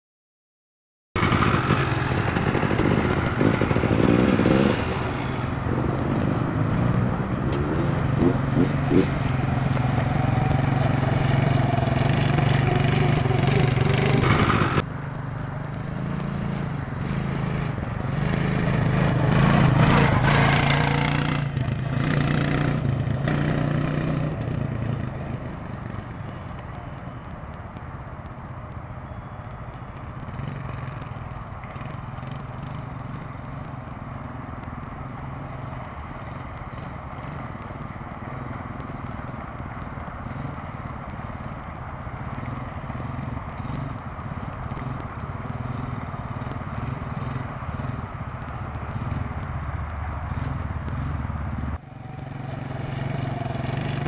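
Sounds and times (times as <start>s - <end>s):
quad bike engine running: 1.2s - 27.1s, 29.0s - 41.6s, 42.2s - 54.0s.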